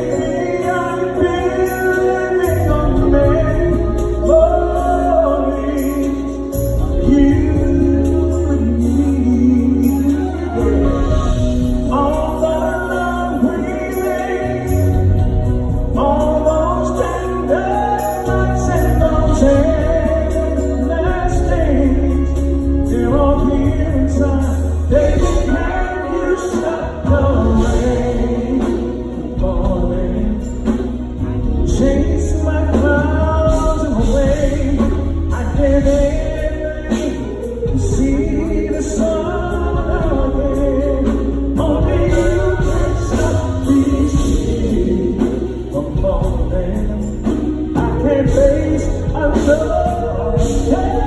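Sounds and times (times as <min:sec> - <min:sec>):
live band playing slow ballad: 0:00.0 - 0:51.0
melodic singing voice: 0:00.0 - 0:51.0.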